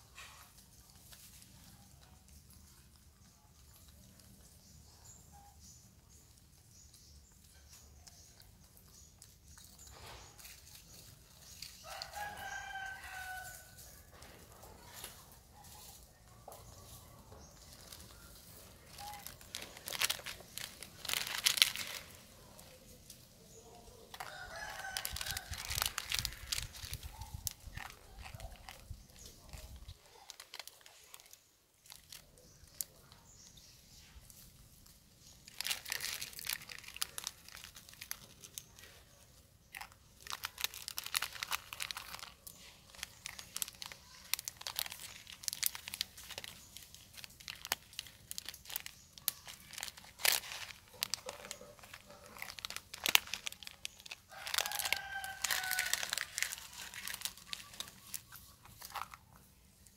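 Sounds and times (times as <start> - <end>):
dry noodles crunching: 0.0 - 59.9
foil packet crinkling: 7.2 - 59.9.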